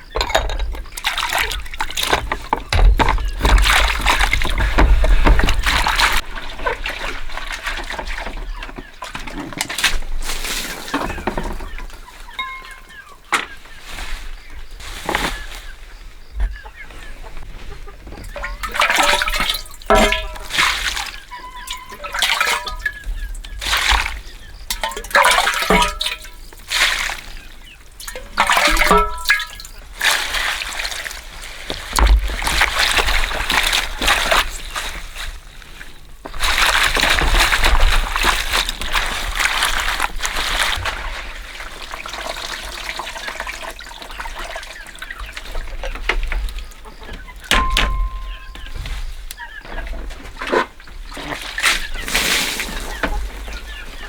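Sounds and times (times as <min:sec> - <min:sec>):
water pouring and splashing: 0:00.0 - 0:15.5, 0:17.4 - 0:54.0.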